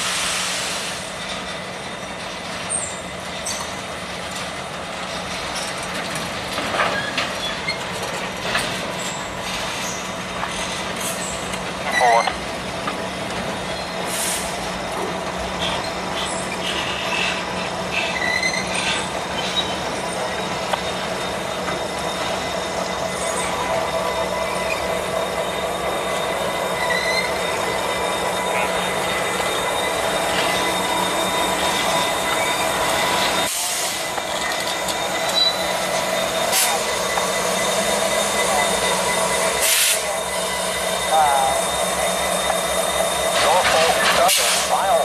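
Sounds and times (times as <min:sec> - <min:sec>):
train wheels squealing: 0:00.0 - 0:03.9, 0:06.8 - 0:12.4, 0:13.5 - 0:44.9
diesel locomotive: 0:00.0 - 0:45.0
freight cars rumbling and clattering: 0:00.0 - 0:45.0.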